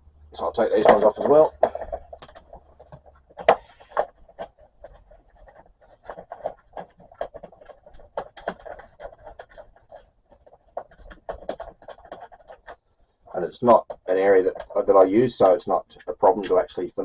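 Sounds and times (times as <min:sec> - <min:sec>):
hard plastic clicks and scraping: 0:00.7 - 0:14.9.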